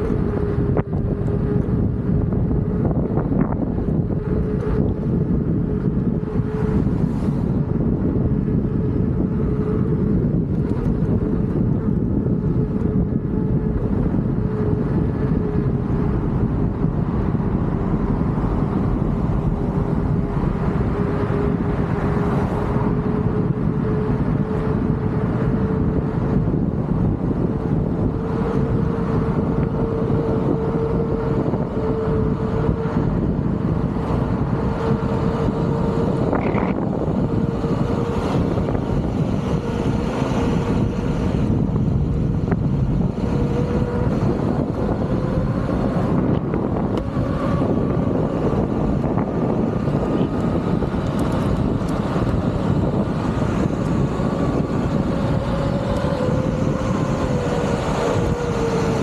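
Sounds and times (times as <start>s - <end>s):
electric motor whine: 0.0s - 59.0s
wind buffeting microphone: 0.0s - 59.0s.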